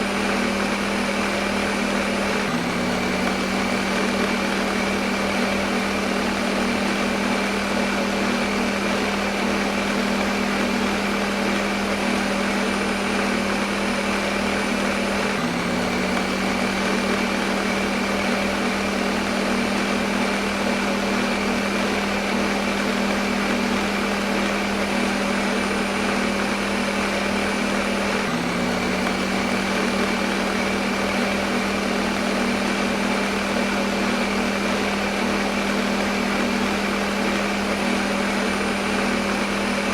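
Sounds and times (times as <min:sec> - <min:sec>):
electric blender running: 0:00.0 - 0:39.9.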